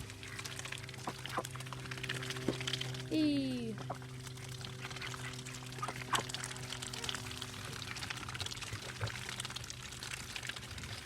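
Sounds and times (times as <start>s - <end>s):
hose water splashing into water: 0.0s - 11.0s
steady low hum: 0.0s - 11.0s.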